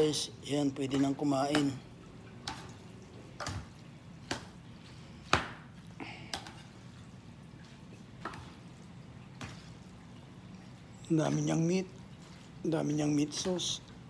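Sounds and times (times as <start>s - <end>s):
wet noodle sounds: 0.0s - 14.0s.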